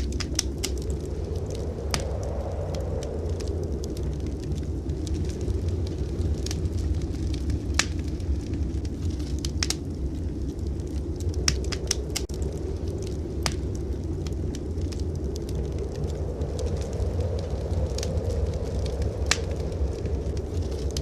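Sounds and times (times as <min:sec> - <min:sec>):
blizzard wind rushing: 0:00.0 - 0:21.0
wood fire crackling and popping: 0:00.0 - 0:21.0.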